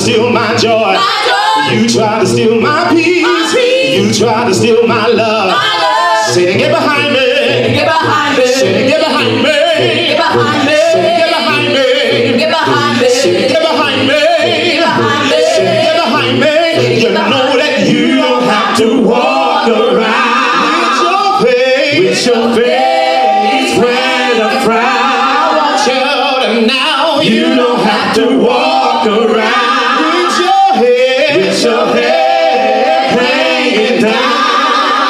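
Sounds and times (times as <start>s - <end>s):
group singing gospel in harmony: 0.0s - 35.0s.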